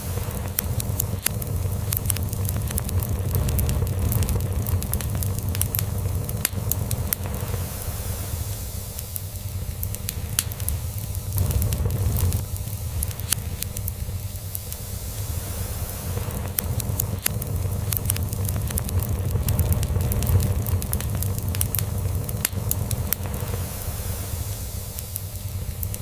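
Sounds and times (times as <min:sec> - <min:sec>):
log fire crackling: 0:00.0 - 0:26.0
low fire rumble: 0:00.0 - 0:26.0.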